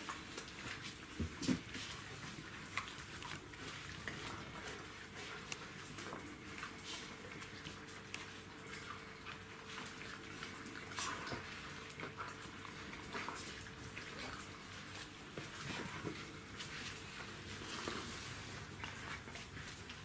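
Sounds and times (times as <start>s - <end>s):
puppies chewing and lapping: 0.0s - 20.0s.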